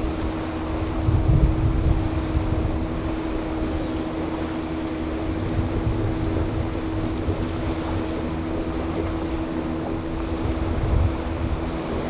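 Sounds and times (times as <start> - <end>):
high-pitched insect buzz: 0.0 - 12.0
steady low hum: 0.0 - 12.0
wind rumbling on microphone: 0.0 - 12.0.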